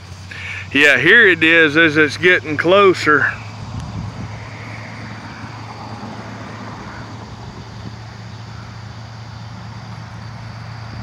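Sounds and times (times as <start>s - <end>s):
even hiss: 0.0s - 11.0s.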